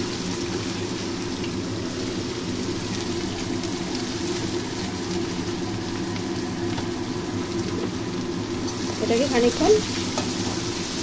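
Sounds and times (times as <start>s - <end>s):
low mechanical hum: 0.0s - 11.0s
onions frying in hot oil: 0.0s - 11.0s.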